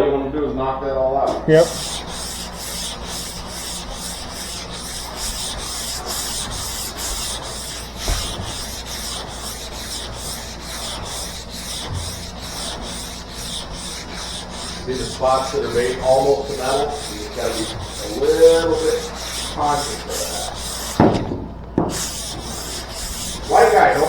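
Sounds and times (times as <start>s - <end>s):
sandpaper rasping on body filler: 1.3s - 24.0s.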